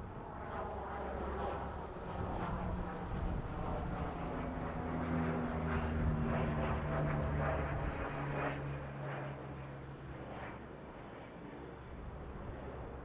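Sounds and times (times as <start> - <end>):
turboprop plane flying past: 0.0 - 13.0.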